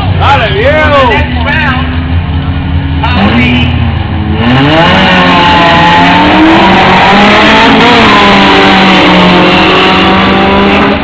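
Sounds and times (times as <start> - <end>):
car engines accelerating hard: 0.0 - 11.0.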